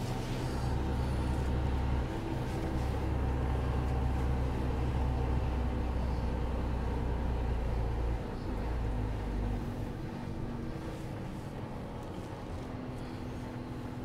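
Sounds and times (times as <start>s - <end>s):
truck diesel engine humming: 0.0s - 14.0s.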